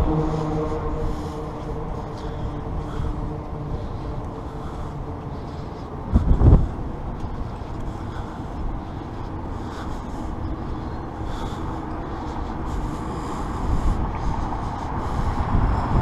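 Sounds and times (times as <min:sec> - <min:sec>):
outdoor street noise: 0:00.0 - 0:16.0
wind rumbling on microphone: 0:00.0 - 0:16.0.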